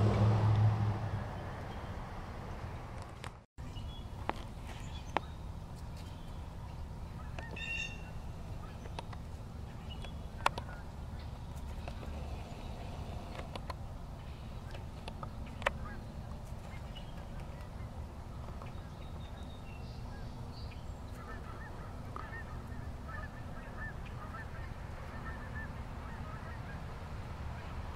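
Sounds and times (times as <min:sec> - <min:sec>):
birds calling: 0:03.6 - 0:27.9.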